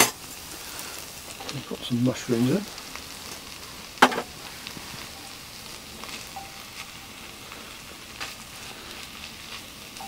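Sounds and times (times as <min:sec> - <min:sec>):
mushrooms and onions sizzling: 0:00.0 - 0:10.0.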